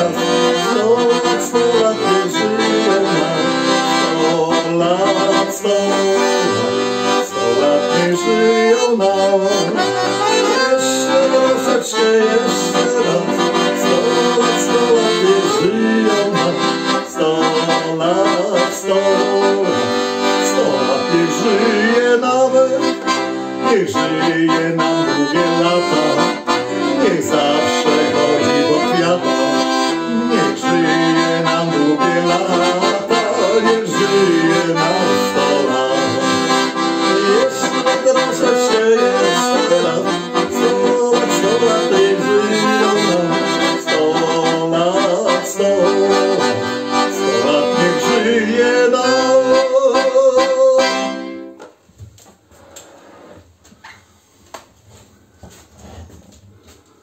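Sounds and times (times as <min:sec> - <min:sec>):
piano accordion melody: 0:00.0 - 0:51.8.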